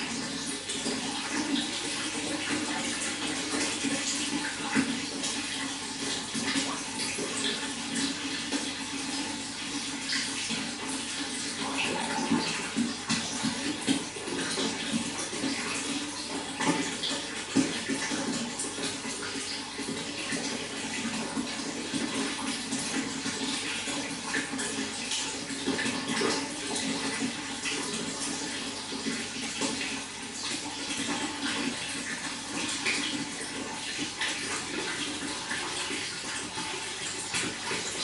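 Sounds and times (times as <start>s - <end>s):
running water splashing: 0.0s - 38.0s.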